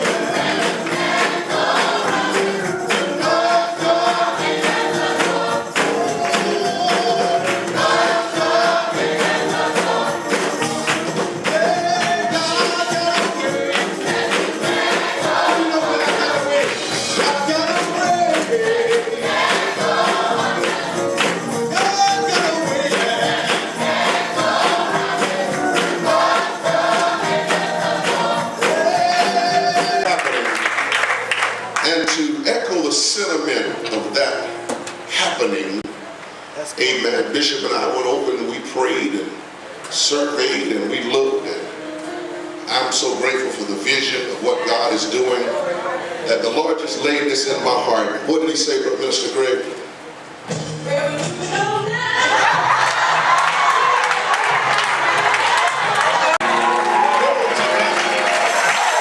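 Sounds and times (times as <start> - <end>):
gospel choir singing: 0.0 - 31.0, 31.8 - 36.0, 36.8 - 50.0, 50.9 - 59.0.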